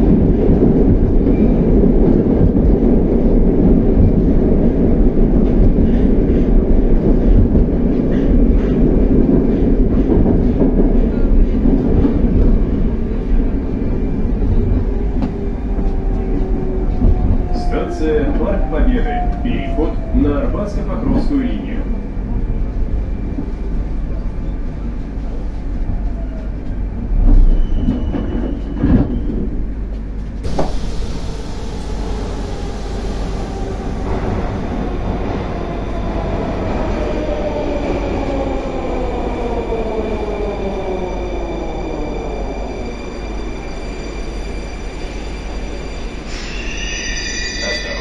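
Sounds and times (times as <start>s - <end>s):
train running rumble: 0.0s - 48.0s.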